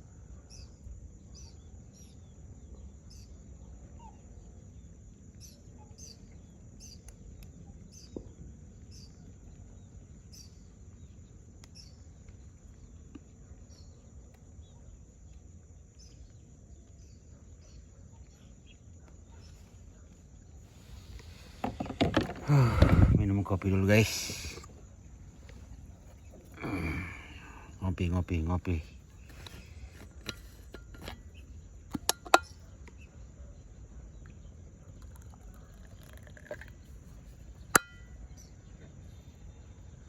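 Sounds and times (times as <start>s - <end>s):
birds chirping: 0.4s - 40.0s.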